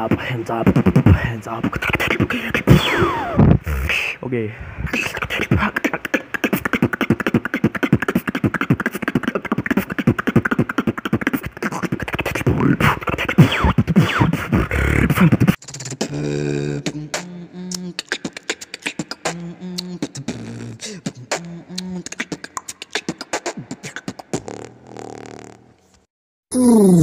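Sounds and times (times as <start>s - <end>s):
person beatboxing: 0.0s - 4.2s, 4.8s - 25.6s.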